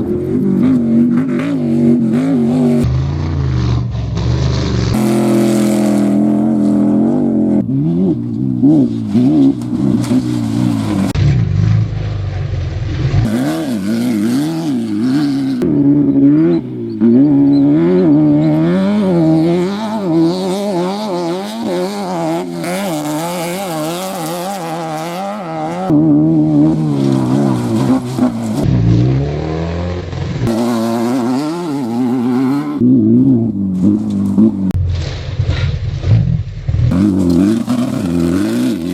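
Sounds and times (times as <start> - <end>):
race vehicle engines revving: 0.0 - 35.1, 35.9 - 38.9.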